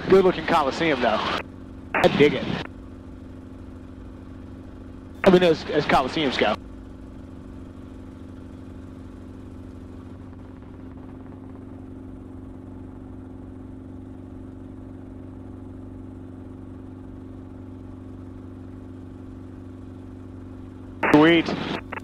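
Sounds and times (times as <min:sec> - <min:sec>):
helicopter engine and rotors droning: 0:00.0 - 0:22.0.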